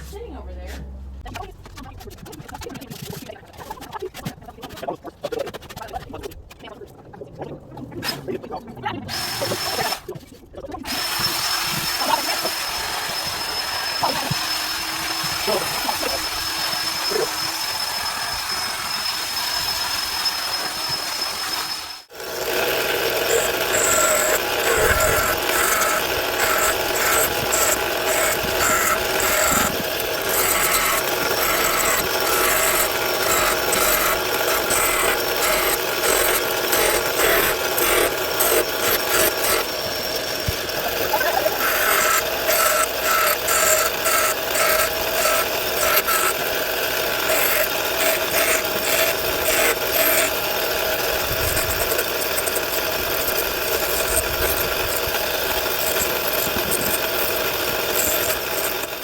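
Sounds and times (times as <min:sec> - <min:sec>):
power sander on wood: 0:09.1 - 0:10.1, 0:10.9 - 0:59.0.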